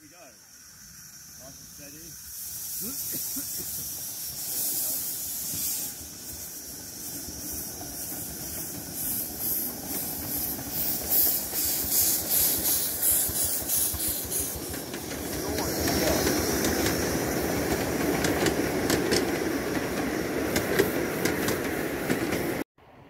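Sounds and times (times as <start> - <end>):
steam locomotive hissing: 0.0 - 22.7
locomotive exhaust beat: 1.0 - 22.6.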